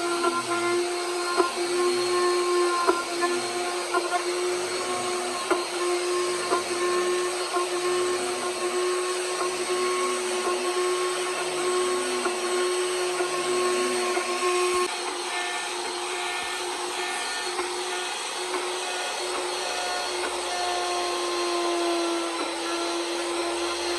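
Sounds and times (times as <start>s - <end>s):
electric carving tool whine: 0.0s - 23.9s.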